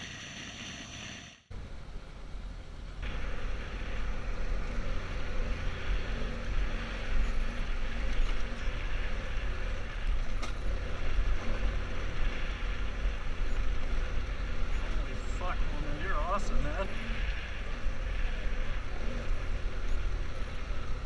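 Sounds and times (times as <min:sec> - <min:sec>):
motorcycle engine running: 0:03.0 - 0:21.0.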